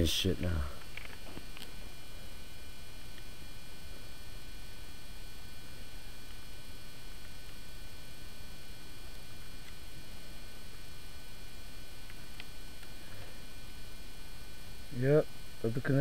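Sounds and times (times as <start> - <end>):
background hiss and low rumble: 0.0 - 16.0
faint high-pitched whine: 0.0 - 16.0.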